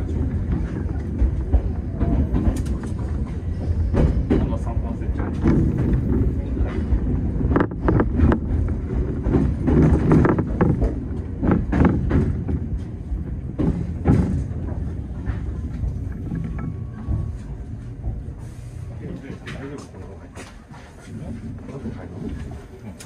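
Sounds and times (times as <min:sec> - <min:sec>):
train rumbling slowly: 0:00.0 - 0:23.0
wheels clacking over rail joints: 0:00.0 - 0:23.0.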